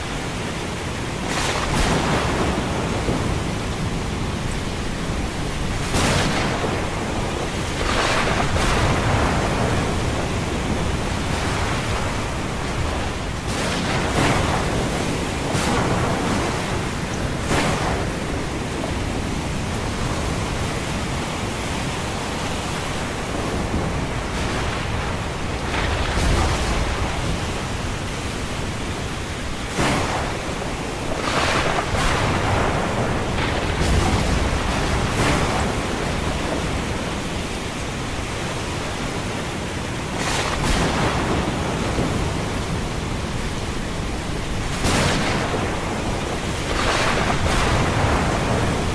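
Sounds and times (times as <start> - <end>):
ocean waves washing: 0.0 - 48.9
waves crashing: 0.0 - 48.9.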